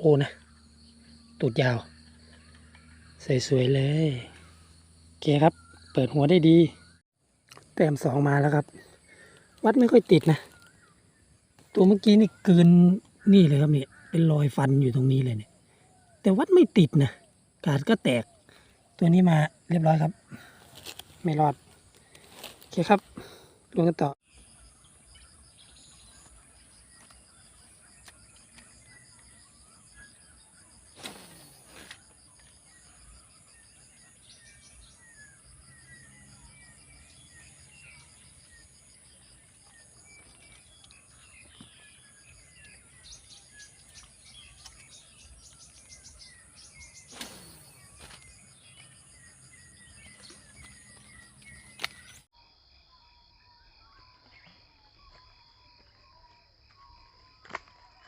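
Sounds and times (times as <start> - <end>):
bird chirps: 0.0 - 58.0.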